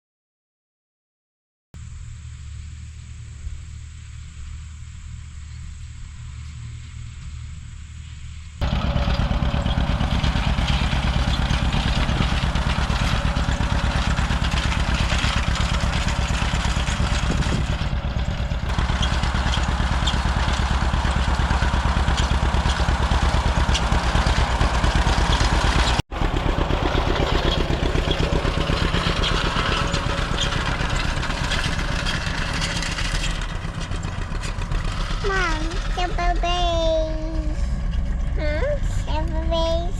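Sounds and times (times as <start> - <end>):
tractor engine running: 1.8 - 39.9.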